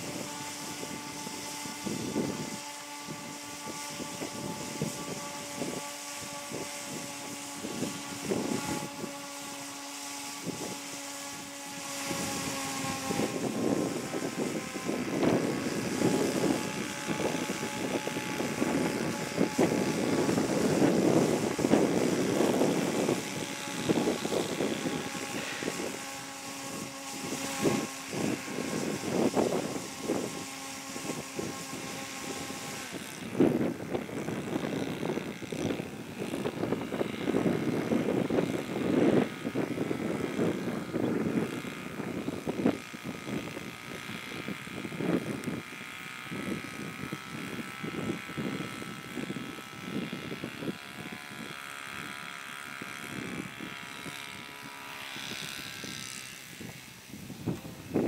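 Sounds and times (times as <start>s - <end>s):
gusty noise: 0.0s - 58.0s
model plane engine idling: 0.0s - 58.0s.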